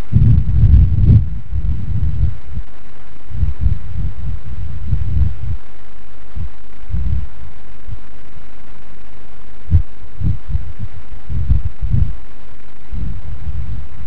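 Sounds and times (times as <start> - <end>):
clothing rubbing on microphone: 0.0 - 14.0
steady hiss: 0.0 - 14.0.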